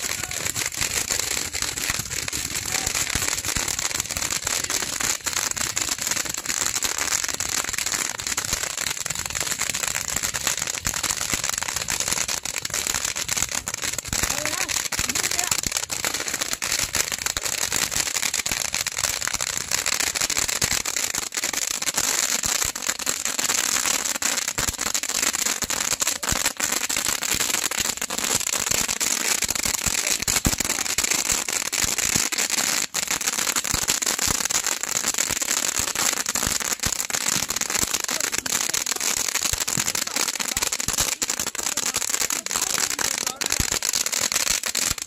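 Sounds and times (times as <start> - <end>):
firework pops and crackles: 0.0 - 45.0
firework tubes firing: 0.0 - 45.0.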